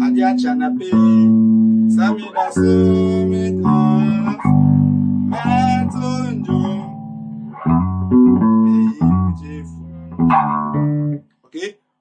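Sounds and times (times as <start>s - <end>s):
electric bass guitar: 0.0s - 11.2s.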